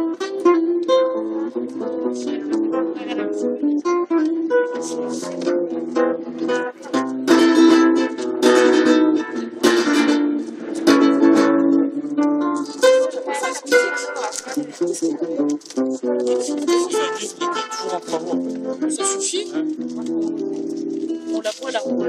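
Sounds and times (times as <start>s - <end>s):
guitar strummed chords: 0.0s - 22.0s.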